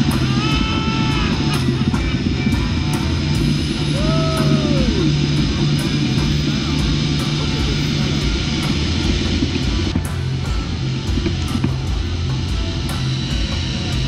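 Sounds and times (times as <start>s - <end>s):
live heavy rock band: 0.0s - 14.0s.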